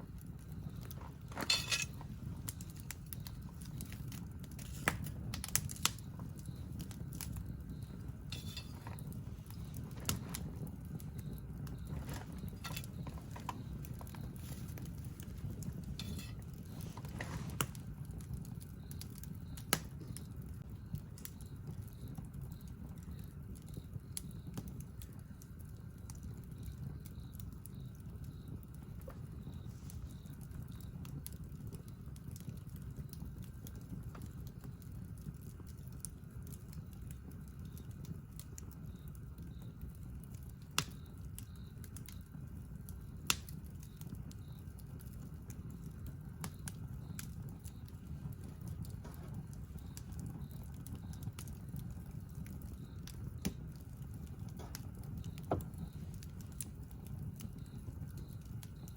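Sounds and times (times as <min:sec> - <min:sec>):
campfire crackling and popping: 0:00.0 - 0:58.9
low fire rumble: 0:00.0 - 0:58.9.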